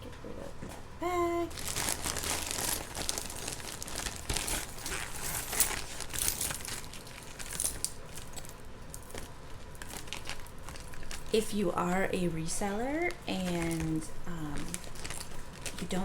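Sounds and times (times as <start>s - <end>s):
plastic bag crinkling: 1.5s - 11.5s, 12.8s - 16.0s.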